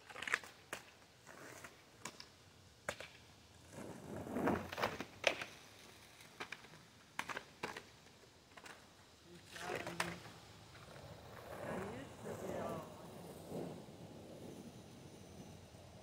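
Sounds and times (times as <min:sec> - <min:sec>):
skateboard rolling rumble: 0:00.0 - 0:16.0.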